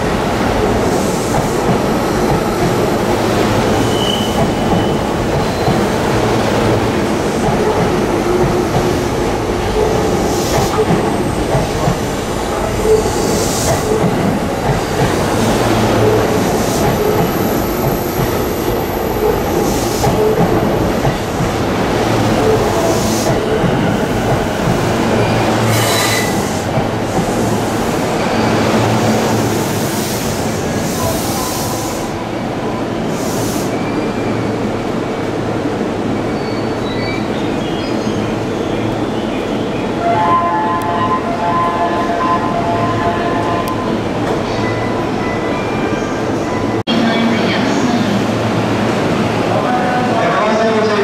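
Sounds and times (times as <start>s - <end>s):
electric train rumbling past: 0.0s - 51.0s.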